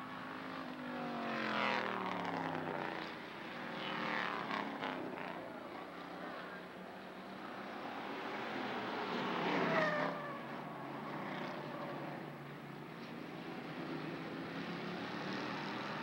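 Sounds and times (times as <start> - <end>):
distant race cars running: 0.0 - 16.0
race cars passing by: 0.0 - 16.0.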